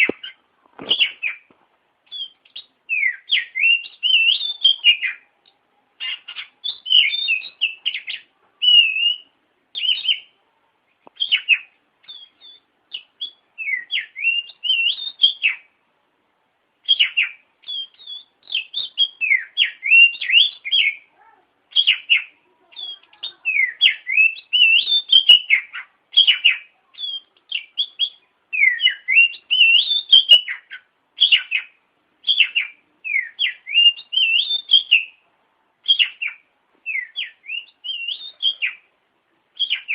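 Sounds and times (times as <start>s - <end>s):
bird singing whistled phrases: 2.1s - 5.3s, 6.0s - 10.3s, 11.2s - 15.7s, 16.8s - 21.1s, 21.7s - 35.2s, 35.8s - 38.9s, 39.6s - 39.9s.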